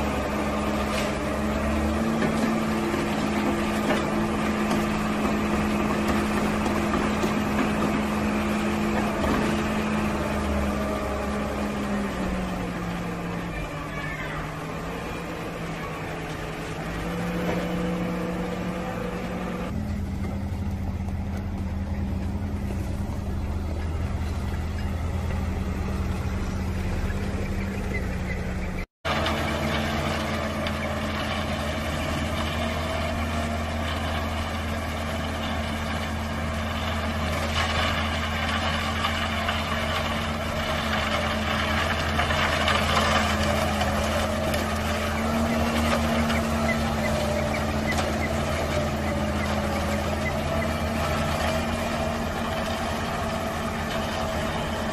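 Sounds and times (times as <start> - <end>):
diesel engine of concrete mixer: 0.0 - 54.9.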